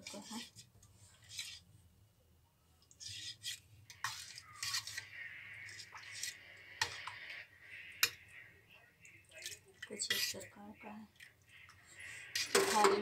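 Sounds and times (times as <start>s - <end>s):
spoon stirring thick yogurt: 0.0s - 1.9s, 2.8s - 13.0s.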